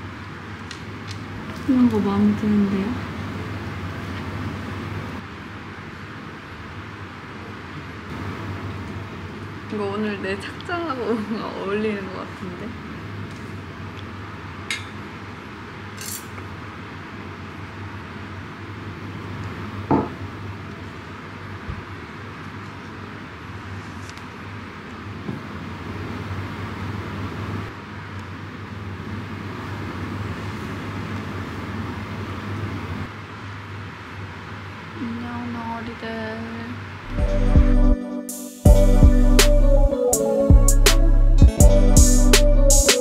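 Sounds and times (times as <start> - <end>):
room noise: 0.0 - 38.0.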